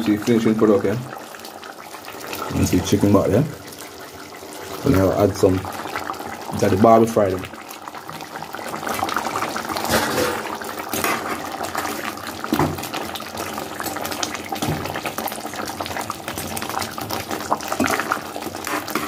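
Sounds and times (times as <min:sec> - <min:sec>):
sauce bubbling in pot: 0:00.0 - 0:19.0.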